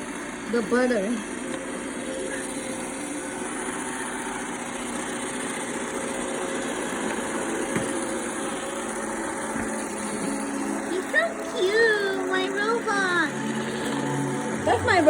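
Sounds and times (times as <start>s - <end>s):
robot vacuum cleaner whirring: 0.0s - 15.0s.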